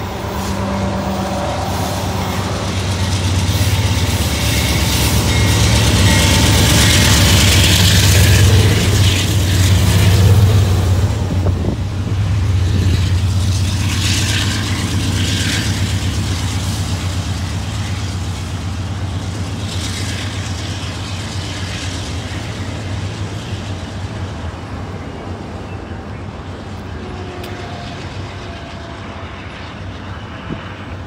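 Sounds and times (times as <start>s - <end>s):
diesel locomotive engine drone: 0.0s - 31.0s
freight cars rumbling on rails: 0.0s - 31.0s.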